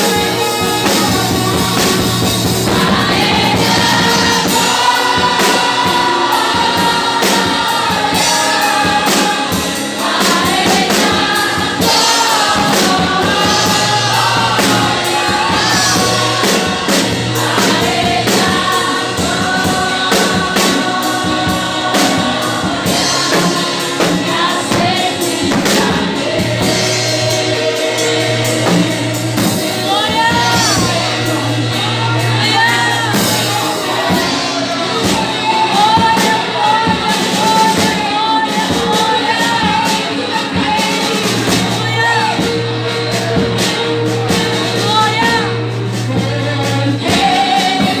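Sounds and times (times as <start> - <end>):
band playing steady beat: 0.0 - 48.0
gospel choir singing: 0.0 - 48.0.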